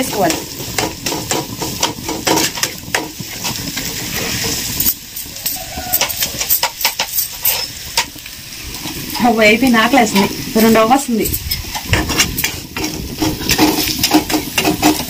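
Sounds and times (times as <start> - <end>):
onions sizzling: 0.0 - 15.0
spatula scraping a pan: 0.0 - 15.0.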